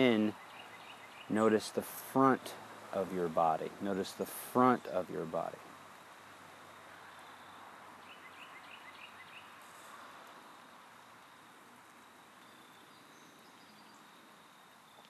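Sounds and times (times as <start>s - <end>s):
even hiss: 0.0s - 14.9s.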